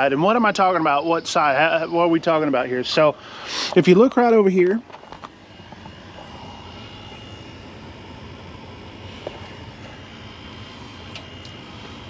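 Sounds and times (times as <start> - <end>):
high whine: 0.0 - 12.0
mechanical drone: 0.0 - 12.0.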